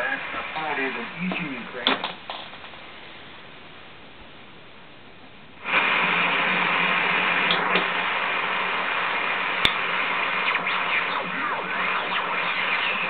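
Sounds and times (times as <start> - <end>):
radio static with steady tones: 0.0 - 3.2, 5.6 - 13.0.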